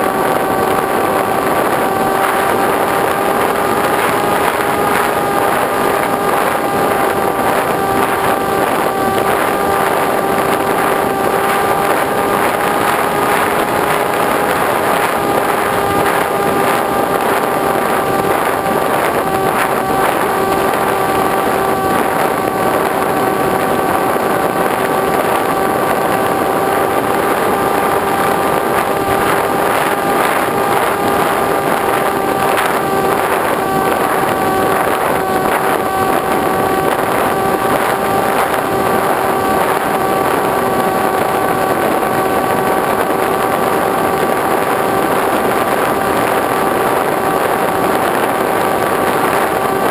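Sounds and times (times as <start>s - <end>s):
air rushing over microphone: 0.0s - 49.9s
model plane motor and propeller: 0.0s - 49.9s.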